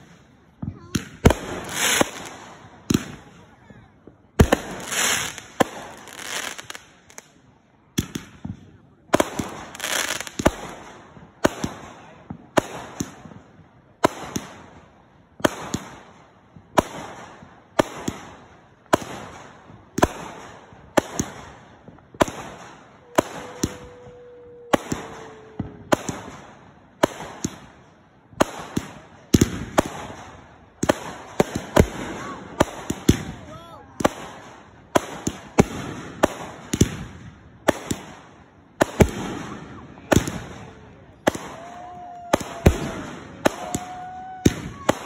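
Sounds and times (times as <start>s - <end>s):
fireworks shots with hiss: 0.0s - 45.0s.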